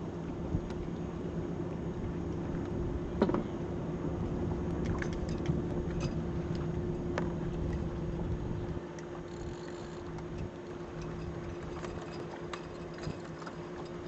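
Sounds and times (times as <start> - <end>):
boat engine humming: 0.0 - 14.0
water noise: 0.0 - 14.0
wind: 0.0 - 14.0.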